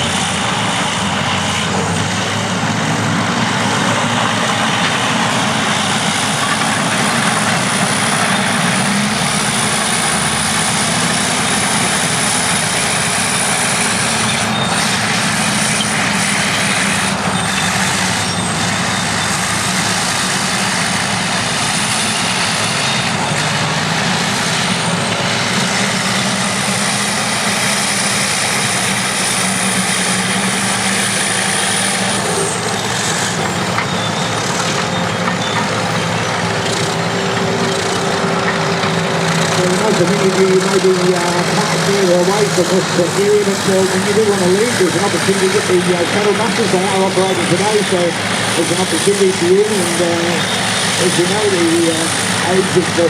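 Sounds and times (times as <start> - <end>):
bulldozer engines running under load: 0.0 - 53.0.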